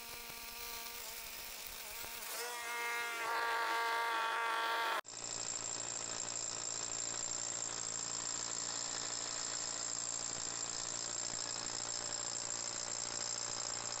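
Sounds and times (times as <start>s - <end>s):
hammer drill boring masonry: 0.0s - 14.0s.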